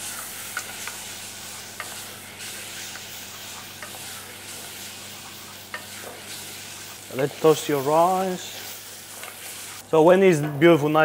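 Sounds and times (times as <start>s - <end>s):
rice and onion sizzling in oil: 0.0s - 9.9s.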